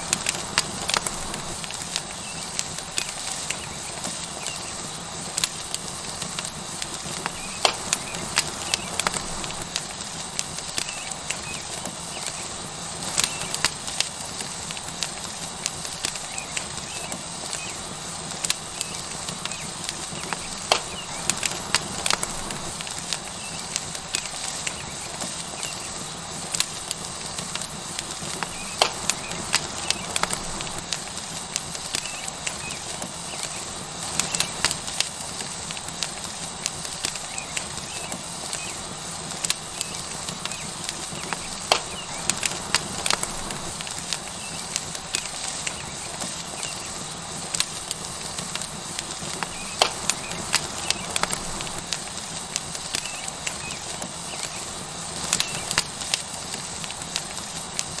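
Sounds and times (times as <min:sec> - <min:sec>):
steak sizzling on hot rock: 0:00.0 - 0:58.0
wood fire crackling and popping: 0:00.0 - 0:58.0.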